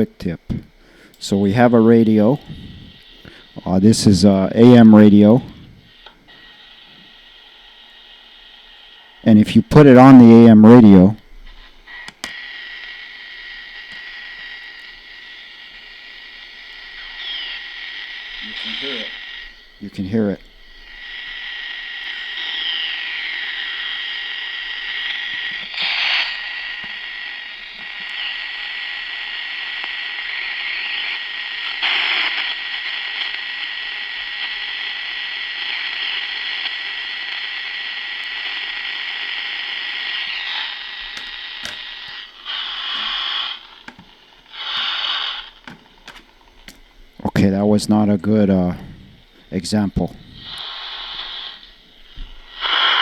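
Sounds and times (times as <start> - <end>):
bursts of interference noise: 0.0 - 53.0
constant high whistle: 0.0 - 53.0
radio static hiss: 0.0 - 53.0.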